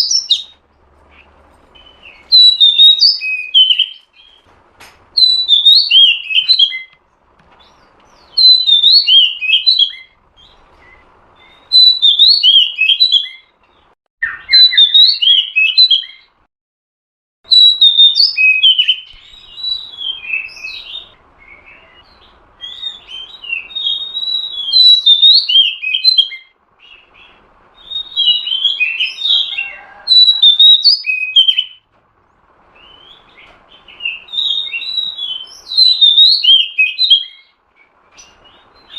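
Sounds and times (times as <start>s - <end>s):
bird chirping rapidly: 0.0s - 4.5s, 5.1s - 16.4s, 17.5s - 38.9s.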